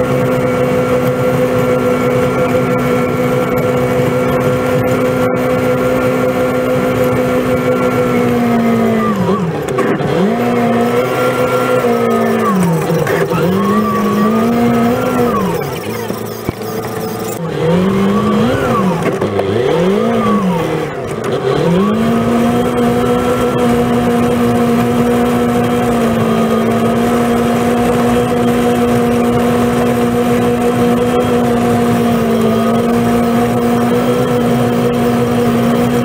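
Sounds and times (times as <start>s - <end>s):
snow blower engine revving: 0.0s - 36.0s.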